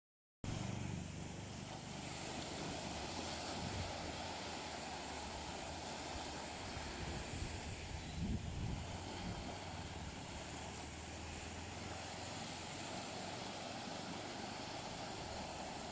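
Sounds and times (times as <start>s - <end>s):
ocean waves on sandy shore: 0.5s - 15.9s
wind rumble on microphone: 0.5s - 15.9s.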